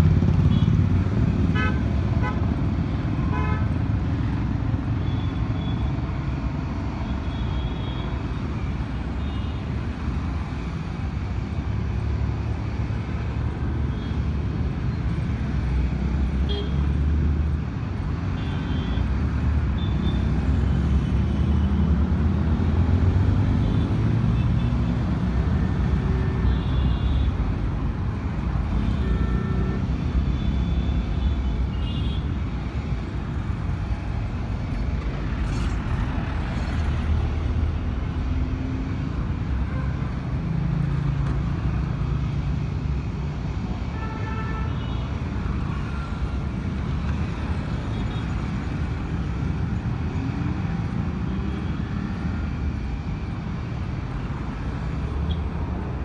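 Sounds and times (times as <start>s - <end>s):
traffic engines passing: 0.0s - 56.0s.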